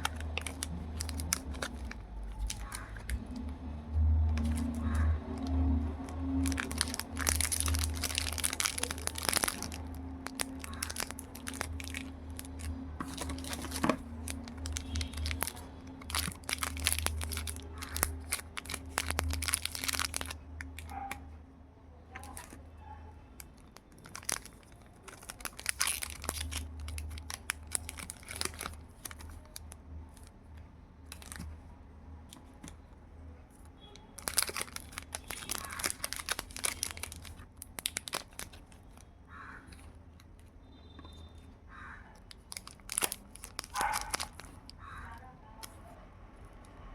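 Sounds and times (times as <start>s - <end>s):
candy wrappers crinkling and tearing: 0.0s - 21.2s, 22.1s - 22.7s, 23.4s - 30.4s, 31.0s - 31.6s, 33.5s - 40.4s, 42.1s - 45.8s.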